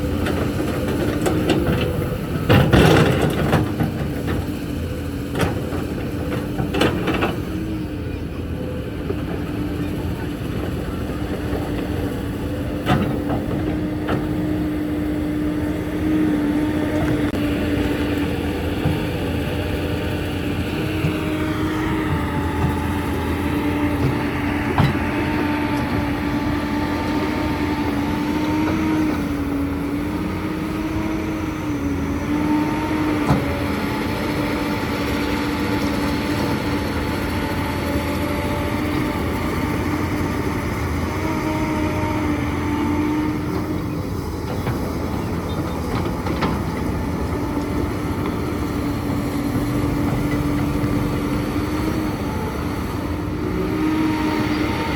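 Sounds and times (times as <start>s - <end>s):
excavator engine and hydraulics: 0.0s - 54.9s.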